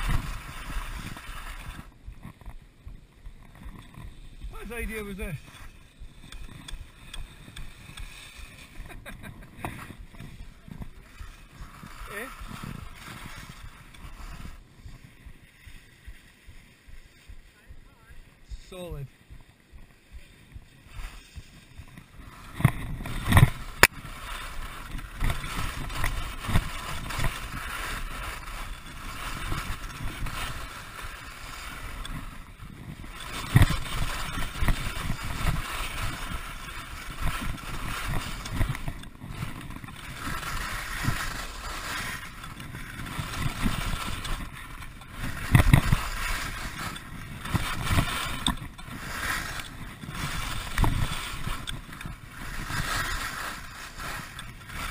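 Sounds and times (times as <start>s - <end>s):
skis knocking on bumps: 0.0s - 54.9s
skis scraping on frozen snow: 0.0s - 54.9s.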